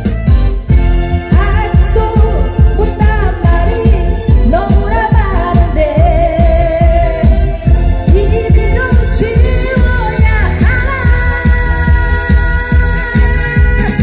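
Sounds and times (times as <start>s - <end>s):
backing track with drum beat: 0.0s - 14.0s
woman singing into a microphone: 1.2s - 14.0s.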